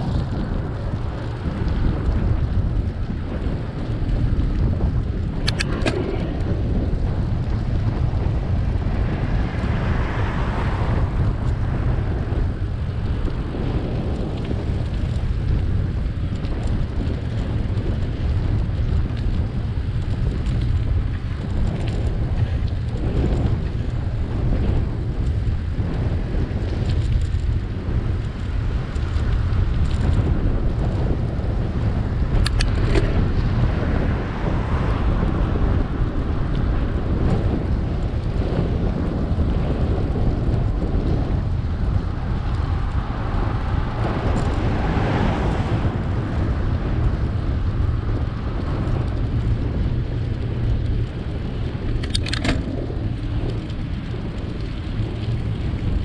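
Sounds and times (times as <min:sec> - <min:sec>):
road noise: 0:00.0 - 0:56.0
wind rumble on microphone: 0:00.0 - 0:56.0.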